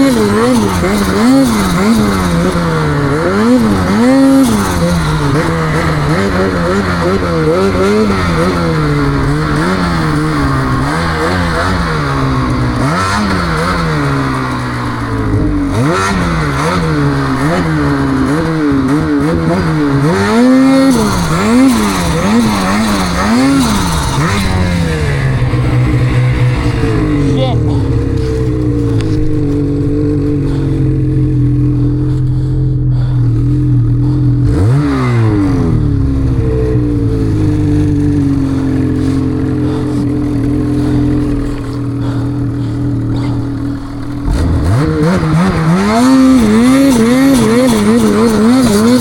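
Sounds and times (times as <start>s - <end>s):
snowmobile engine revving: 0.0s - 49.0s.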